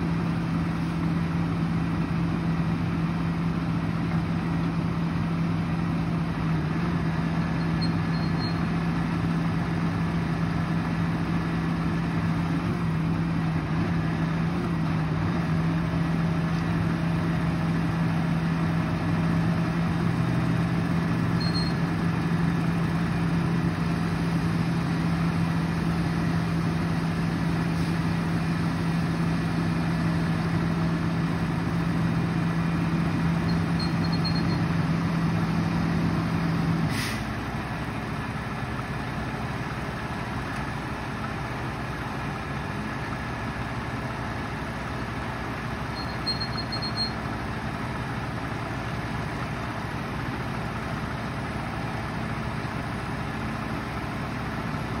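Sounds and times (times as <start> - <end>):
truck diesel engine droning: 0.0 - 55.0.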